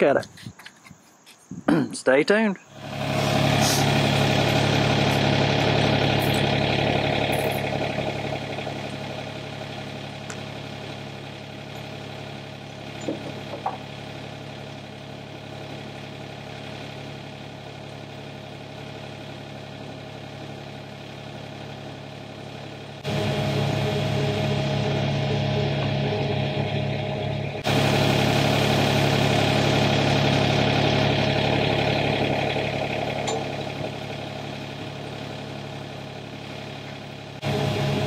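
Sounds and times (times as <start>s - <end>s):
diesel engine idling: 2.6s - 38.0s.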